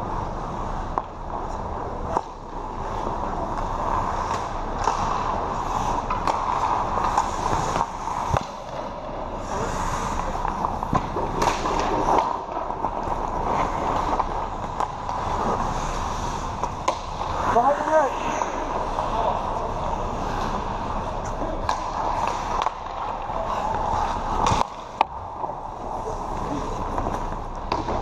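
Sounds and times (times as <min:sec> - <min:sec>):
skate blades scraping on ice: 0:00.4 - 0:28.0
hockey sticks clacking on puck: 0:00.9 - 0:28.0.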